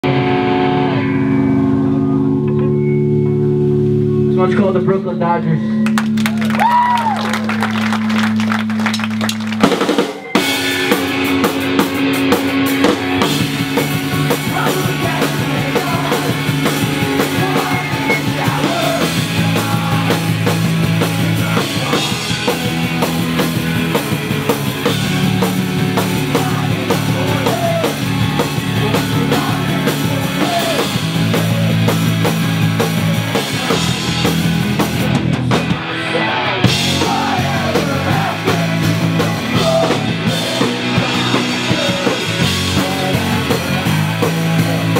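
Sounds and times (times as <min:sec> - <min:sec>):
bass guitar: 0:00.0 - 0:44.9
distorted electric guitars: 0:00.0 - 0:44.9
drum kit: 0:06.0 - 0:44.9.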